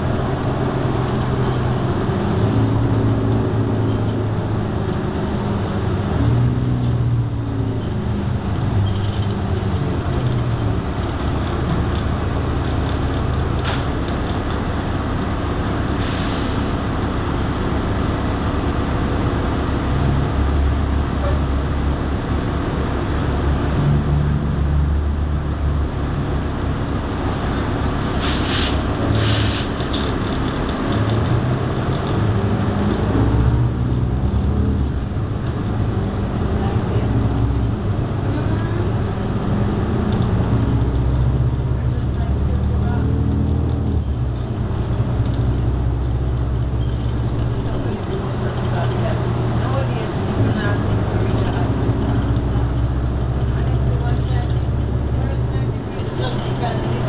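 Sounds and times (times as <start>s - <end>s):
bus engine and drivetrain drone: 0.0s - 57.0s
road noise: 0.0s - 57.0s.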